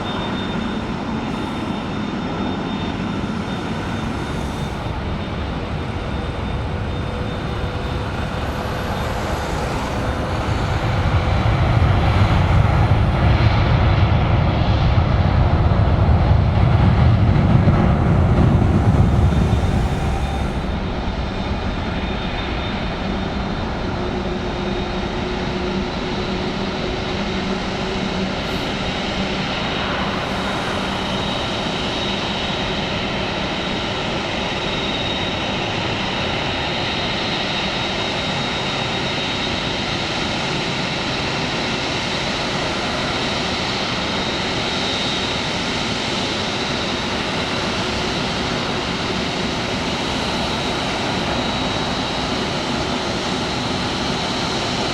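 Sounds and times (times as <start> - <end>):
high engine whine: 0.0 - 54.9
jet engines running: 0.0 - 54.9.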